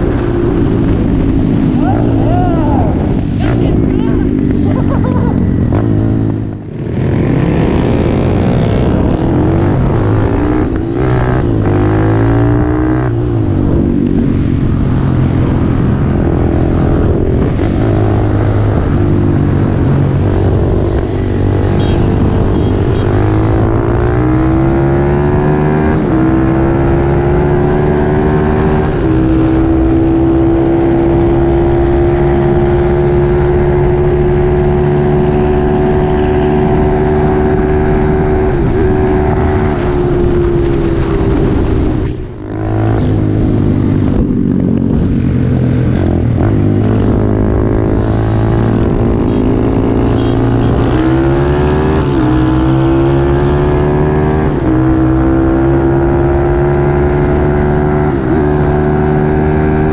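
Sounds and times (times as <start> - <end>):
mini bike engine at full throttle: 0.0 - 59.9.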